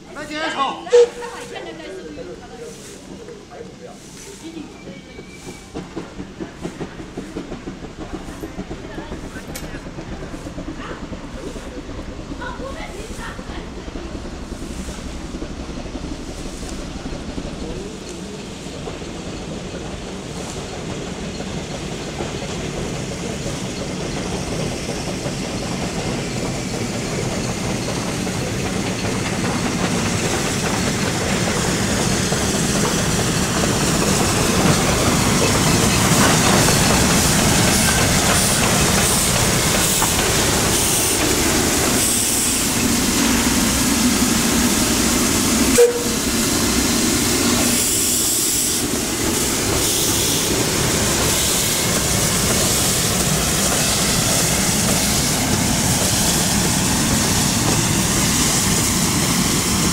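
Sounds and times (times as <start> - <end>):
steam hissing: 0.0 - 59.9
steam locomotive running: 0.0 - 59.9
wheels rattling on rails: 0.0 - 59.9.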